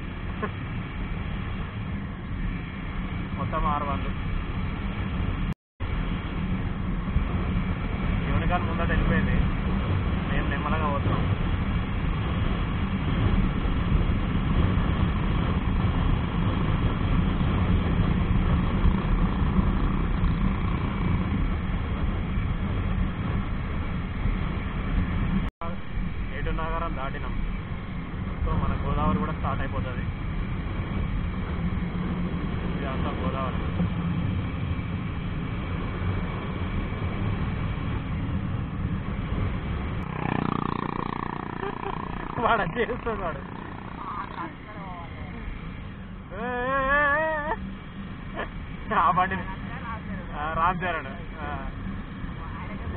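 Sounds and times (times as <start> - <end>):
wind rumble on microphone: 0.0 - 52.9
motorcycle engine: 6.6 - 32.8, 33.6 - 52.9.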